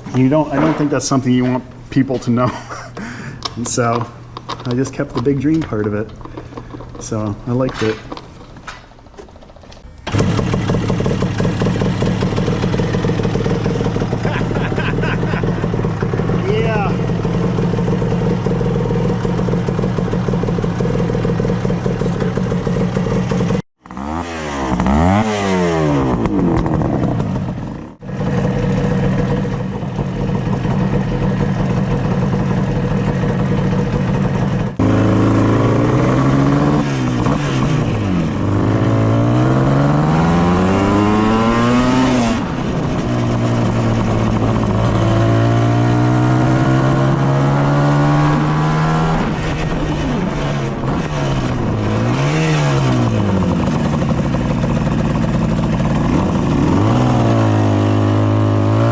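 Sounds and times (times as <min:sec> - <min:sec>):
motorcycle engines revving: 0:10.0 - 0:33.9, 0:34.8 - 0:58.9.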